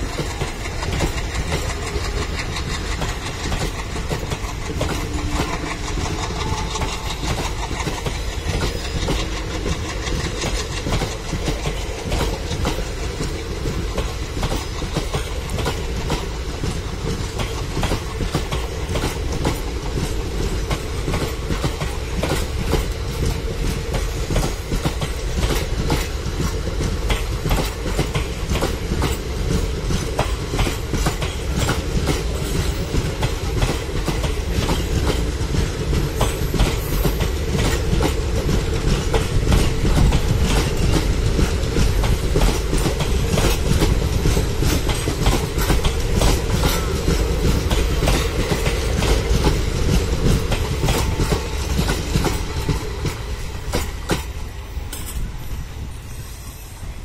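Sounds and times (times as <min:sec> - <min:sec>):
train wheels clattering: 0:00.0 - 0:56.6.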